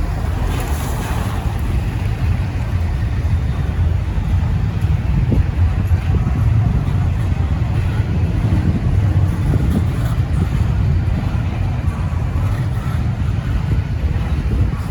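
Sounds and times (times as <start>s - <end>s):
freight train rumbling past: 0.0s - 14.9s
wind buffeting microphone: 0.0s - 14.9s.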